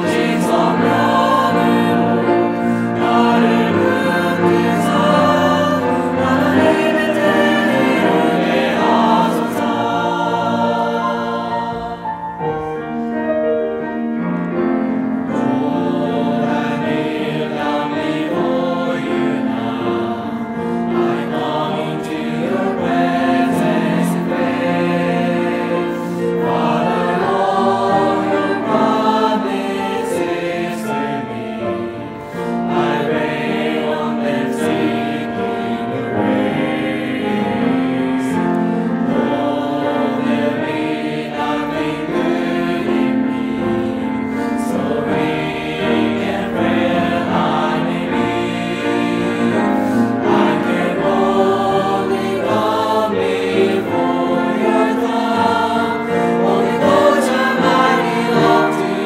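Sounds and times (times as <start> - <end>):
choir singing: 0.0 - 59.0
piano accompaniment: 0.0 - 59.0.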